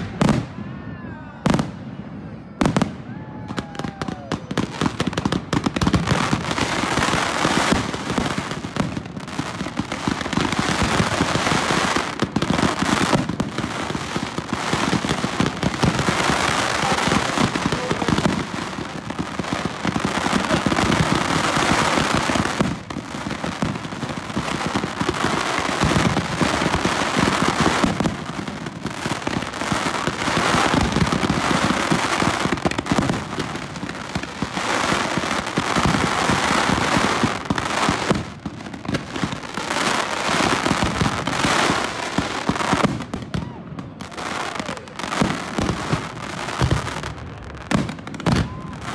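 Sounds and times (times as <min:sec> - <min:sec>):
fireworks bangs and pops: 0:00.0 - 0:00.6, 0:02.6 - 0:48.9.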